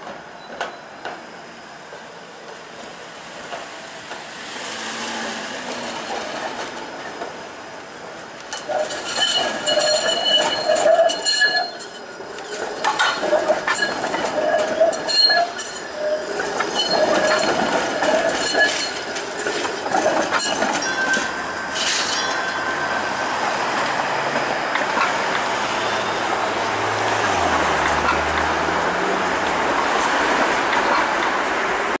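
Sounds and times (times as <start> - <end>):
streetcar rolling rumble: 0.0 - 32.0
streetcar wheels squealing: 0.2 - 32.0.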